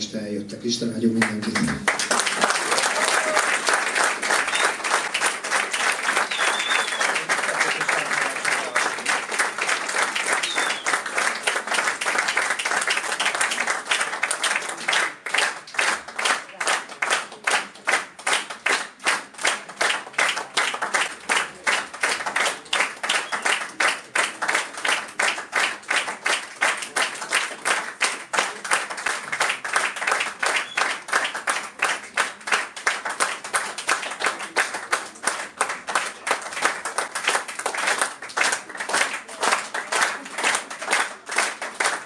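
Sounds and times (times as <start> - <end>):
audience rhythmic clapping: 0.8 - 42.0.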